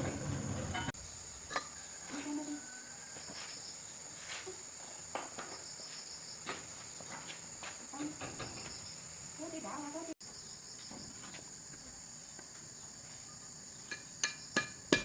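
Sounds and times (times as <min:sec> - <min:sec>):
high-pitched insect chorus: 0:00.8 - 0:14.9.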